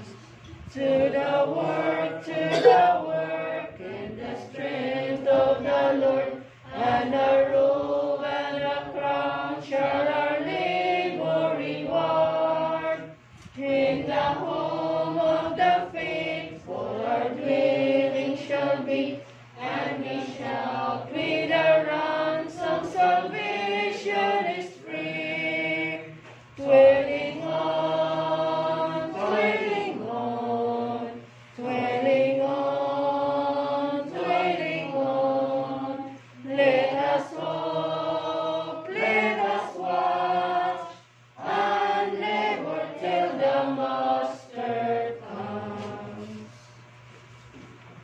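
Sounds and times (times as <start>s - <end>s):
group singing a hymn unaccompanied: 0.0s - 46.8s.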